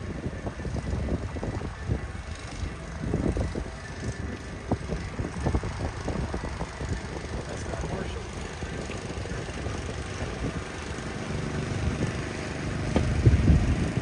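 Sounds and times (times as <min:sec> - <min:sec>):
engine rumbling: 0:00.0 - 0:14.0
wind gusts on microphone: 0:00.0 - 0:14.0.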